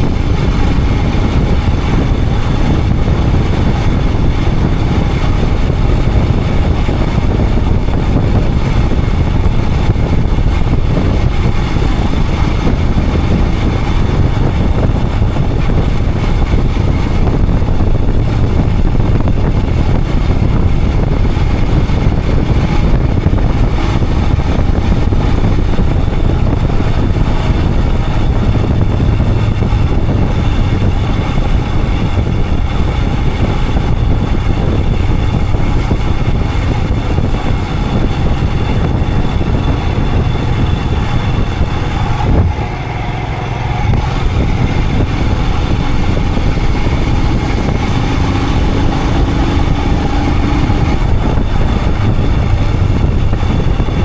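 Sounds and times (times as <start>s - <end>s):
motorcycle engine running: 0.0s - 54.0s
rushing noise: 0.0s - 54.0s.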